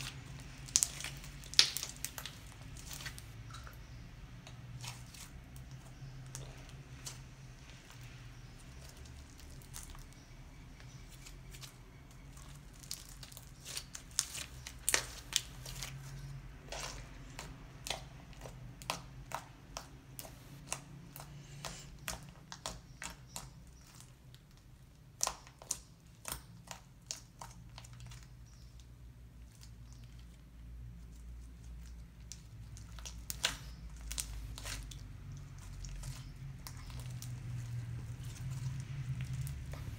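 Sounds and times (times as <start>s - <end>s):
slime squishing and popping: 0.0s - 28.7s, 31.9s - 39.9s.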